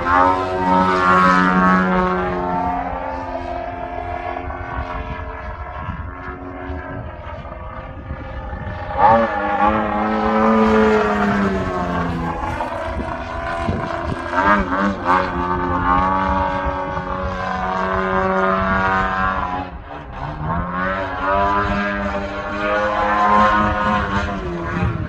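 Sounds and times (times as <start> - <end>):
model plane engine and propeller: 0.0 - 25.0.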